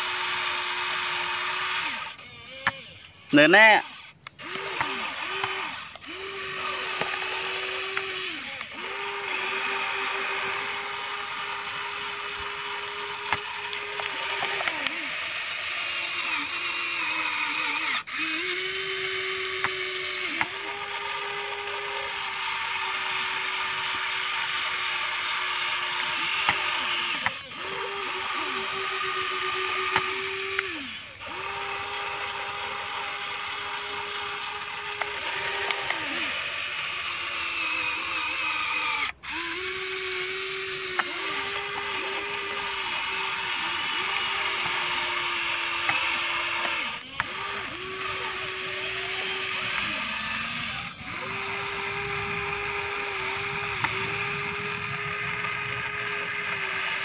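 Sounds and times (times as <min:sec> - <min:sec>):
electric gear motors whining: 0:00.0 - 0:57.0.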